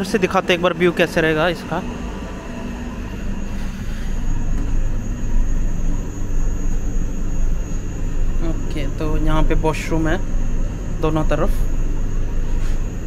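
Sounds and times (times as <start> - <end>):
faint high whine: 0.0 - 13.0
train low rumble and hum: 0.0 - 13.0.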